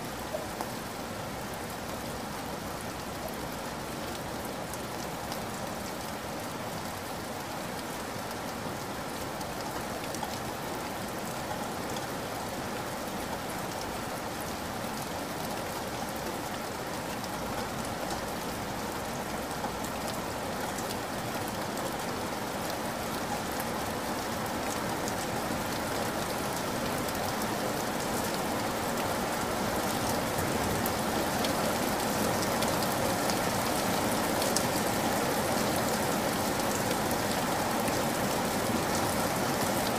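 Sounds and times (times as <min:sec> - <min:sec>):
stream flowing over gravel: 0:00.1 - 0:39.9.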